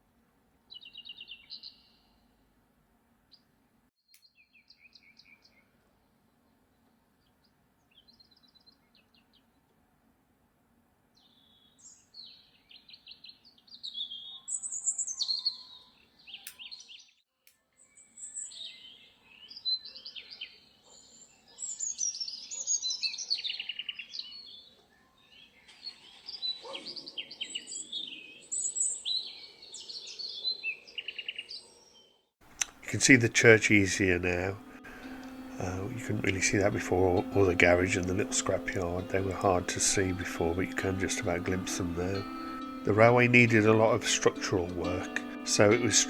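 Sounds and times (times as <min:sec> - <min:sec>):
songbirds chirping and trilling: 0:00.7 - 0:02.4, 0:04.1 - 0:09.8, 0:11.1 - 0:46.0.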